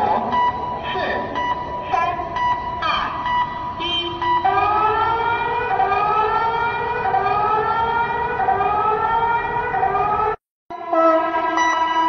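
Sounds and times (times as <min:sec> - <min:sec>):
warning sirens rising in pitch: 0:00.0 - 0:12.0.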